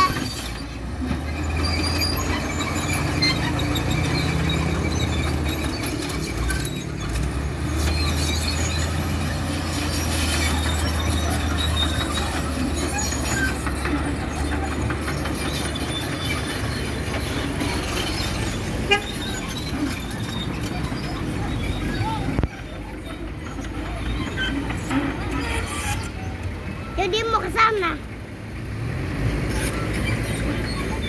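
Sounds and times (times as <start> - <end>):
metallic squealing: 0.0 - 28.0, 29.5 - 31.0
heavy machine engine hum: 0.0 - 31.0.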